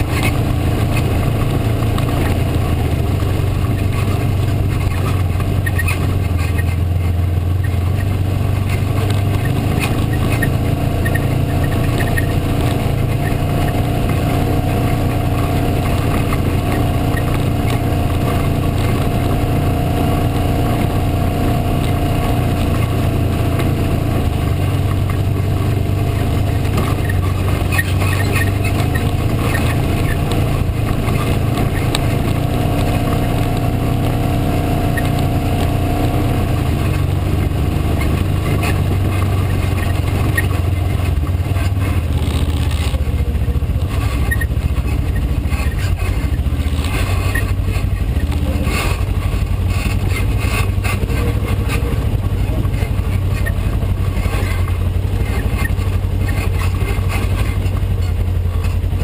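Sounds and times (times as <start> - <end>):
vehicle engine running: 0.0 - 59.0
vehicle rattles and knocks: 0.0 - 59.0.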